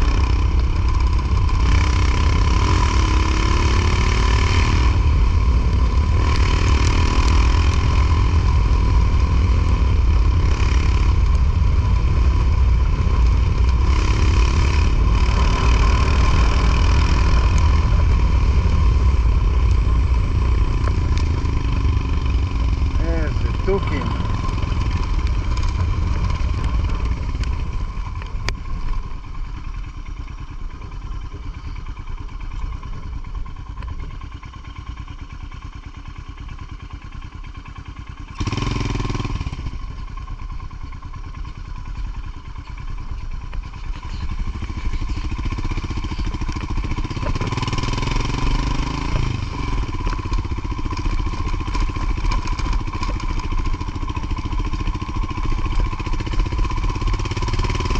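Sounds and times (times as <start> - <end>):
motorcycle engine rumbling: 0.0 - 57.9.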